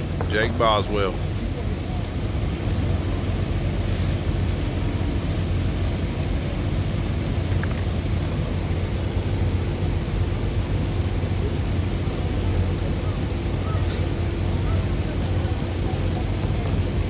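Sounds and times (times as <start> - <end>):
distant race car engines rumbling: 0.0 - 17.0.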